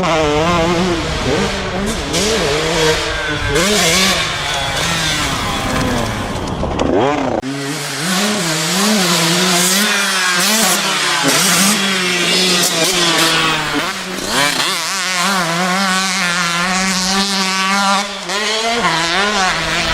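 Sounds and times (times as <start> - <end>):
dirt bike engine buzzing: 0.0 - 19.9.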